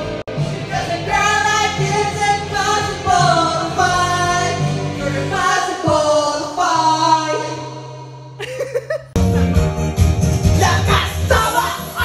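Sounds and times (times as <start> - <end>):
music backing track: 0.0 - 12.0.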